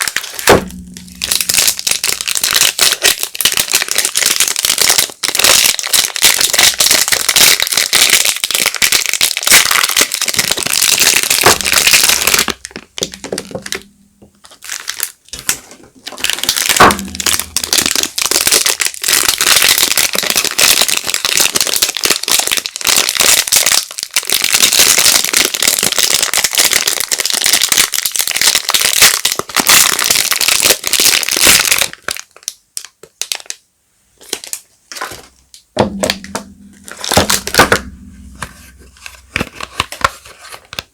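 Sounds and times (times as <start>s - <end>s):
soap wrappers crinkling: 1.2s - 33.6s, 34.2s - 38.0s.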